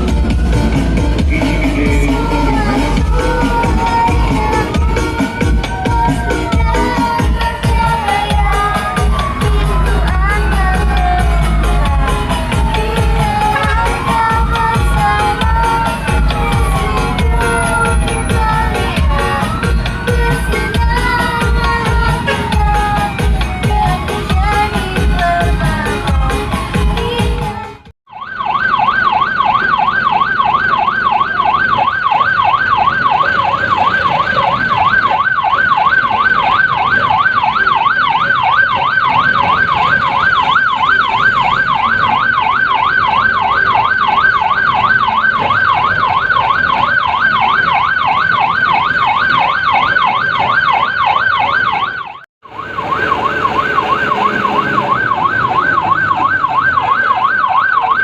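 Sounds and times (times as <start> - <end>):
electronic siren yelping: 0.0 - 58.0.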